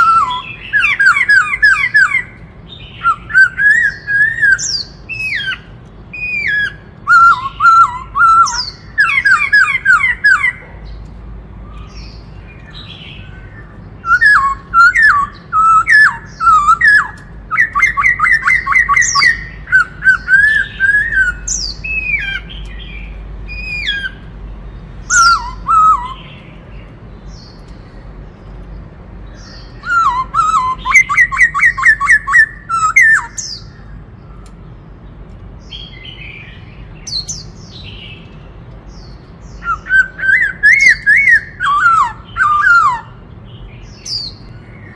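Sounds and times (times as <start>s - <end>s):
bird singing whistled notes: 0.0s - 10.6s, 11.6s - 27.7s, 29.2s - 34.6s, 35.6s - 44.9s.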